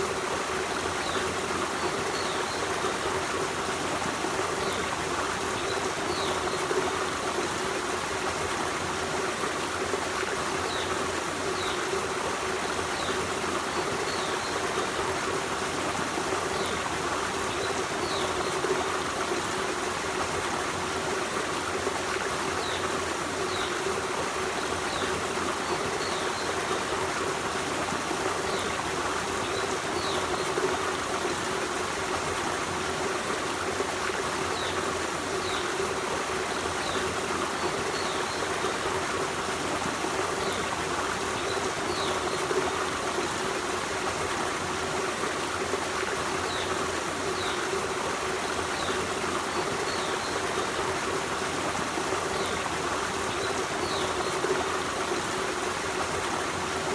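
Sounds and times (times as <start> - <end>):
stream flowing water: 0.0 - 56.9.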